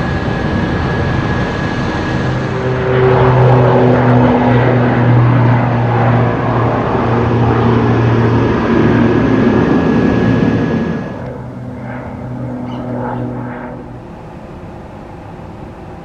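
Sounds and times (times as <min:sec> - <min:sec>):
propeller plane drone: 0:00.0 - 0:16.0
thin high whine: 0:00.0 - 0:16.0.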